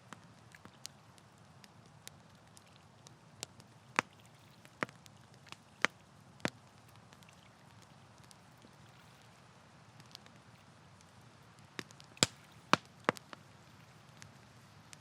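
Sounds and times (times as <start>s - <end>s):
campfire crackling and popping: 0.0s - 15.0s
faint low hiss: 0.0s - 15.0s.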